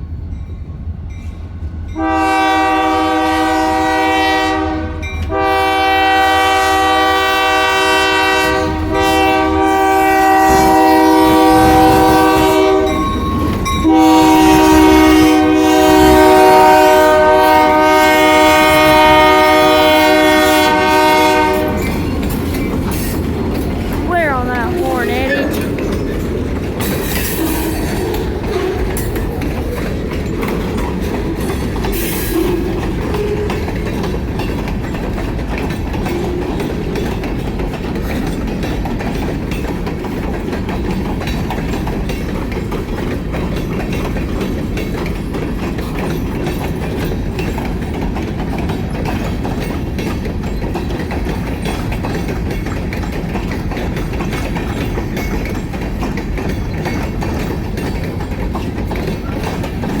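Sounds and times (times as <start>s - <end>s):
train wheels clacking on rails: 1.2s - 60.0s.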